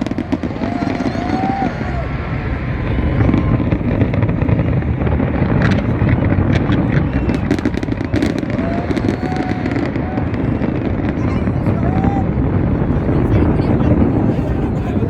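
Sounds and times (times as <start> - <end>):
fireworks crackling: 0.0 - 15.0
fireworks rumbling bursts: 0.0 - 15.0.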